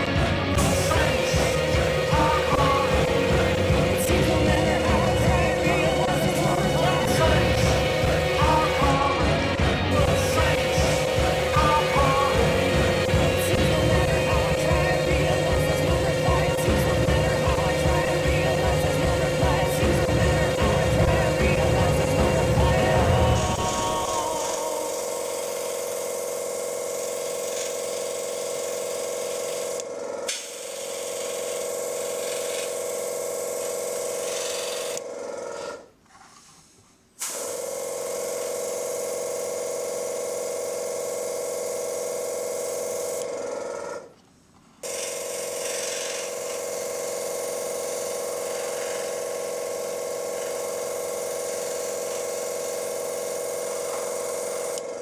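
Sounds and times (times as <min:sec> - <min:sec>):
airbrush and compressor hissing: 0:00.0 - 0:44.1, 0:44.8 - 0:55.0.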